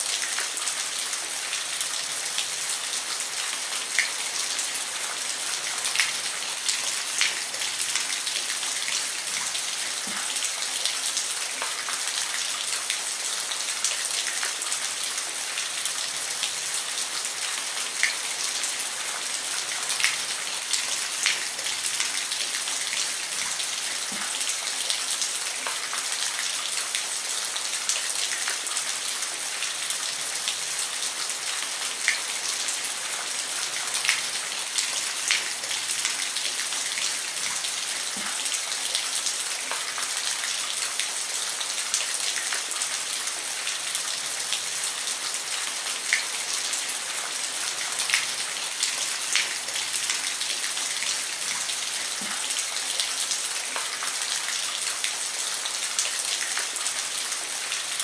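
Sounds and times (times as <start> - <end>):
rain hissing on a roof: 0.0 - 58.0.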